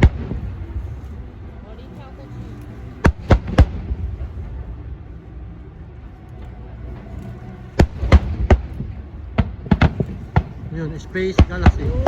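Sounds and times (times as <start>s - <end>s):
fireworks rumble: 0.0s - 12.0s.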